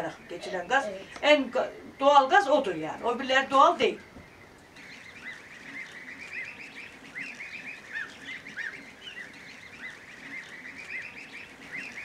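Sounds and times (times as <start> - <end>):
geese calling: 0.0 - 12.0.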